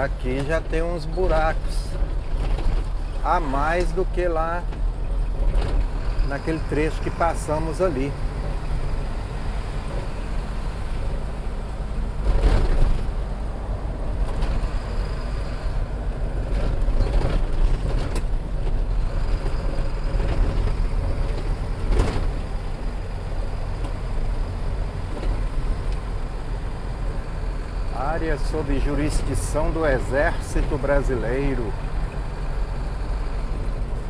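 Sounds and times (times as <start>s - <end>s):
vehicle clunks and rattles: 0.0s - 34.0s
vehicle engine and tyre drone: 0.0s - 34.0s.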